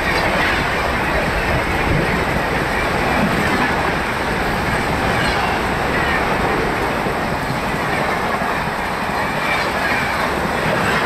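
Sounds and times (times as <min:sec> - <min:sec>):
train coaches rushing past: 0:00.0 - 0:11.0.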